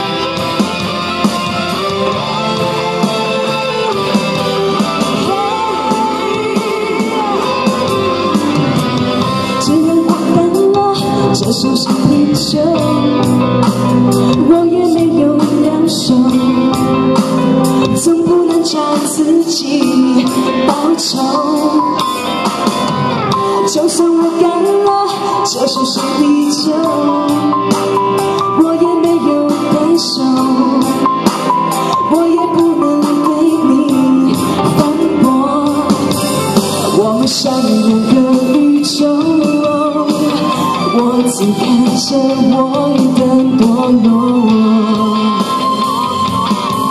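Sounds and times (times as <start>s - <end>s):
instrumental accompaniment: 0.0s - 46.9s
woman singing pop song: 0.0s - 46.9s.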